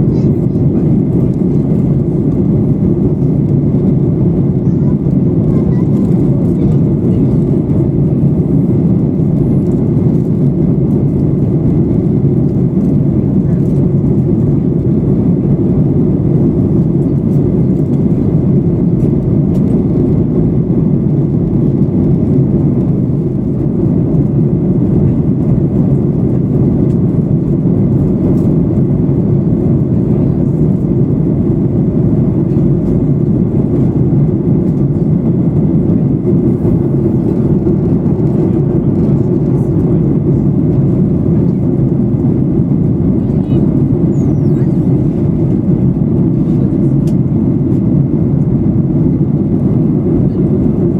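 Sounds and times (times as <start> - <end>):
aircraft cabin engine rush: 0.0 - 50.9.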